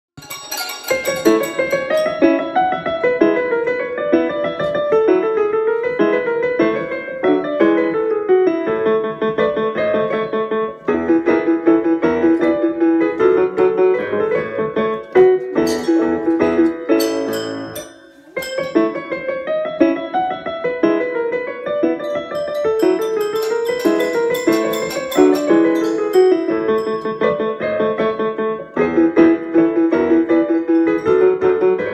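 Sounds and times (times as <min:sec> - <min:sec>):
piano music: 0:00.2 - 0:31.9.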